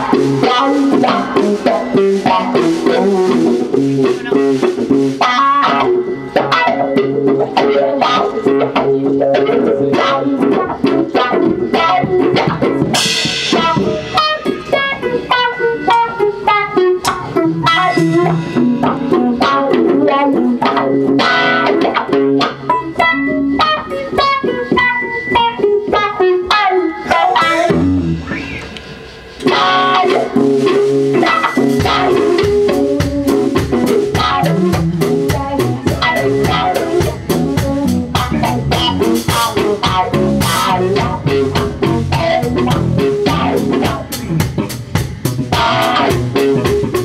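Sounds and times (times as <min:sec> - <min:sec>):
live band music: 0:00.0 - 0:47.0.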